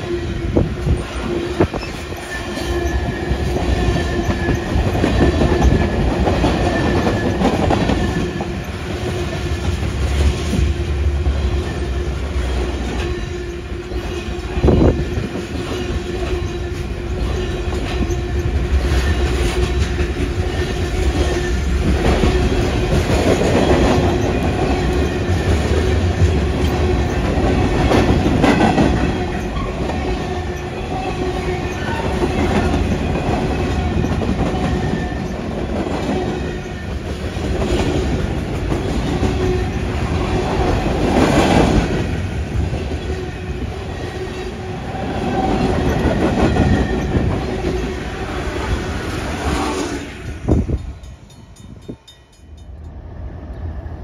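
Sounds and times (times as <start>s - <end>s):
freight train wheels clacking: 0.0s - 53.0s.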